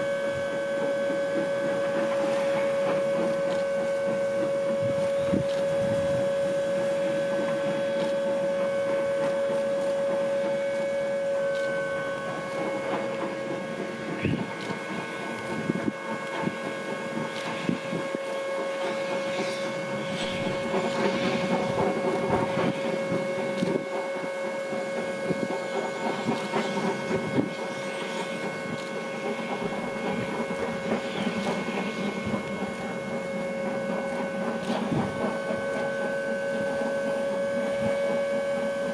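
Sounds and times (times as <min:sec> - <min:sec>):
snowplow whining hum: 0:00.0 - 0:38.9.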